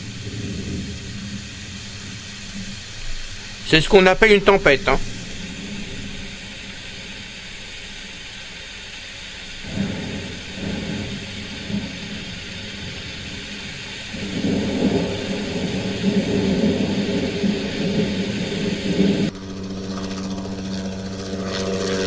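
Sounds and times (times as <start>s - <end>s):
thunder rumbling: 0.0s - 8.4s, 9.5s - 19.6s
rain hiss: 0.0s - 19.6s.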